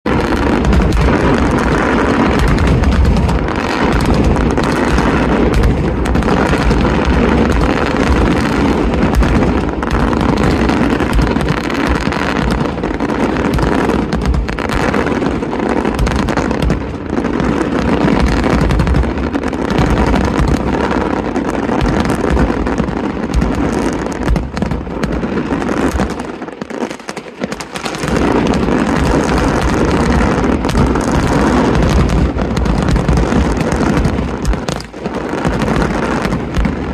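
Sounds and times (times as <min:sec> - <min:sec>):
firework shell bursts and crackling: 0:00.1 - 0:36.9.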